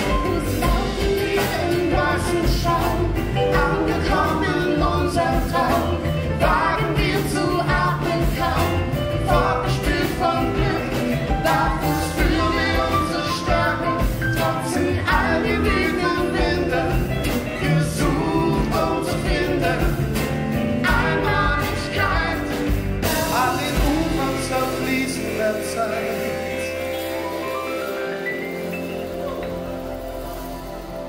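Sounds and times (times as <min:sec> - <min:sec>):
drums: 0:00.0 - 0:31.0
live band playing: 0:00.0 - 0:31.0
voices singing: 0:00.0 - 0:31.0.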